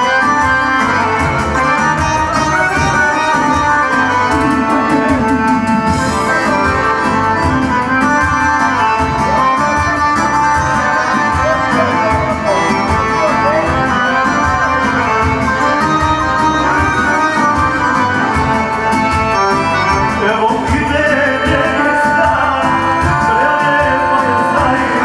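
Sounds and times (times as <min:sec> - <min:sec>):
accordion playing melody: 0:00.0 - 0:25.0
electronic keyboard backing beat: 0:00.0 - 0:25.0.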